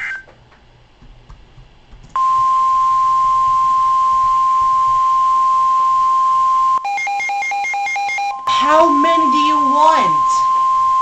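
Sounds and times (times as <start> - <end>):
loud steady alarm tone: 2.2 - 11.0.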